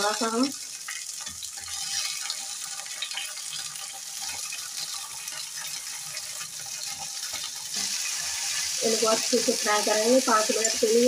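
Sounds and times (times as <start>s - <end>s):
pods frying in hot oil: 0.0s - 11.0s.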